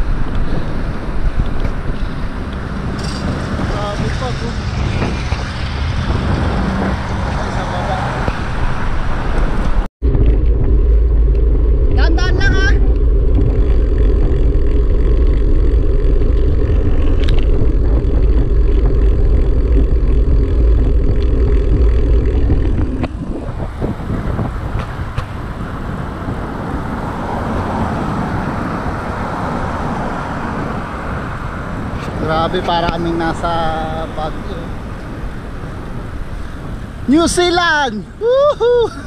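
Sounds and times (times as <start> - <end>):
road and engine rumble: 0.0 - 39.0
rushing wind noise: 0.0 - 39.0.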